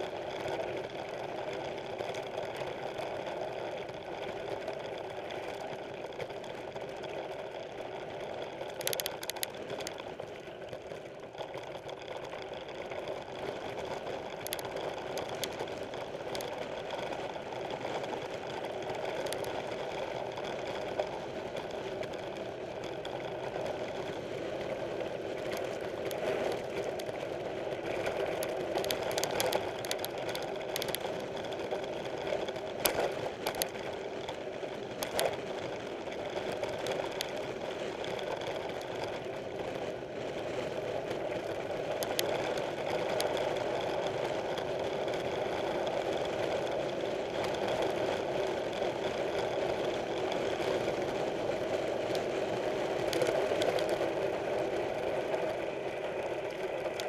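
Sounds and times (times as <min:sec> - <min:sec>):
bike tyres rumbling on dirt: 0:00.0 - 0:57.0.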